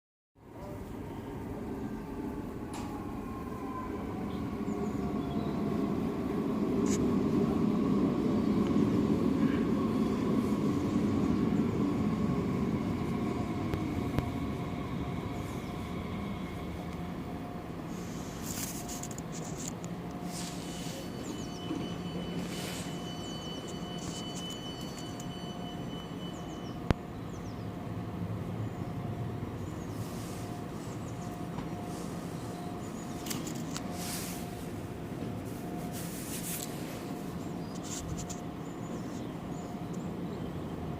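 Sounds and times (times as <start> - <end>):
electric train rumble and whine: 0.4 - 40.9.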